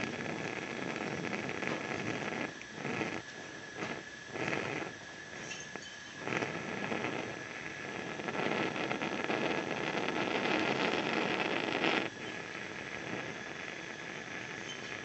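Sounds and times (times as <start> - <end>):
bunsen burner roaring hiss: 0.0 - 15.0.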